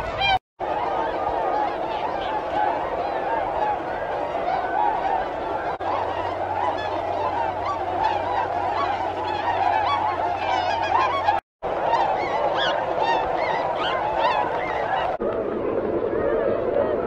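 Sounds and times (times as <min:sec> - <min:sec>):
swans honking in flight: 0:00.0 - 0:15.2.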